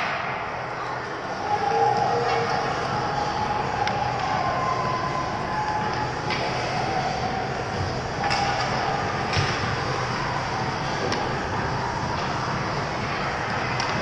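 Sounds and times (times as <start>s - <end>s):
arena noise with skaters: 0.0s - 14.0s.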